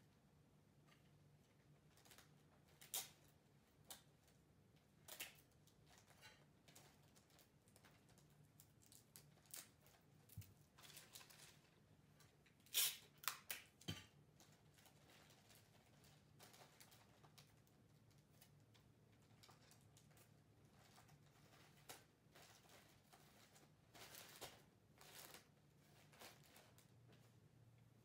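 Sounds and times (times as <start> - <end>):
wrapping paper crinkling: 1.7 - 27.2.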